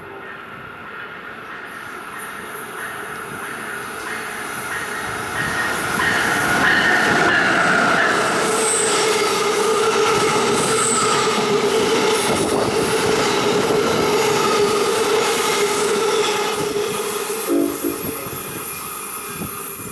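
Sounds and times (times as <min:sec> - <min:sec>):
train rolling rumble: 0:00.0 - 0:19.9
train wheels squealing on rails: 0:00.0 - 0:19.9.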